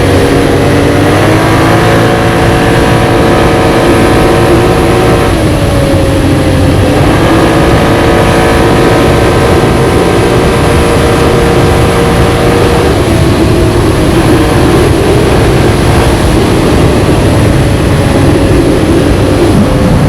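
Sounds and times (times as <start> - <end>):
atv engine running: 0.0 - 20.0
loud rushing noise: 0.0 - 20.0.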